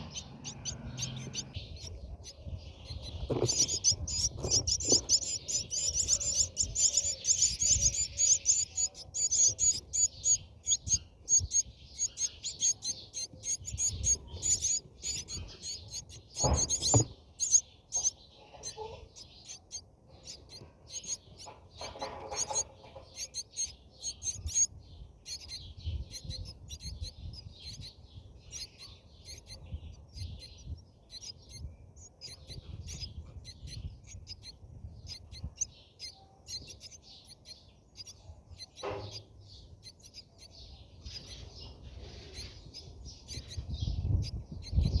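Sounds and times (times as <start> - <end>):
starlings chirping: 0.0 - 45.0.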